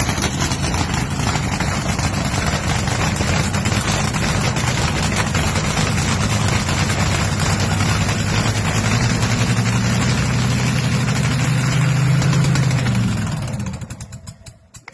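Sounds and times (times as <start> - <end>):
engine idling with low hum: 0.0 - 14.9.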